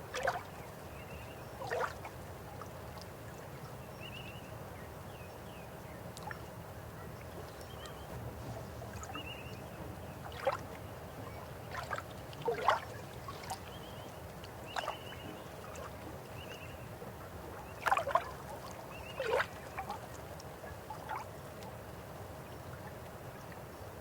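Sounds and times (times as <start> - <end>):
river water flowing: 0.0 - 3.8, 5.7 - 24.0.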